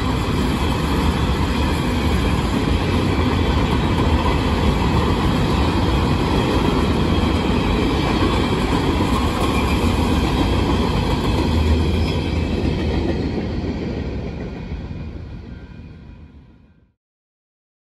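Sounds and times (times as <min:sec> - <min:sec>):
train wheels clattering on rails: 0:00.0 - 0:15.8.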